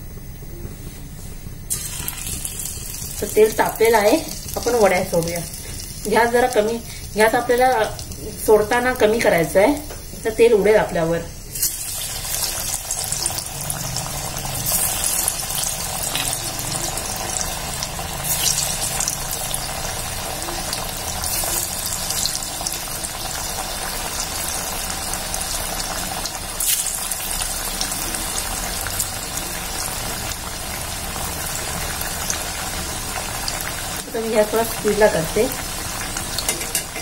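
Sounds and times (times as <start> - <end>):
deep-frying in hot oil: 1.7 - 37.0.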